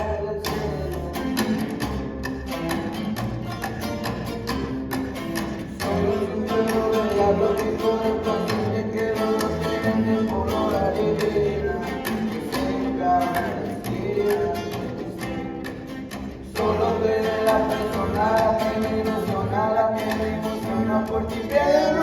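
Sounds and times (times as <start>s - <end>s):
strummed rhythm: 0.0s - 22.0s.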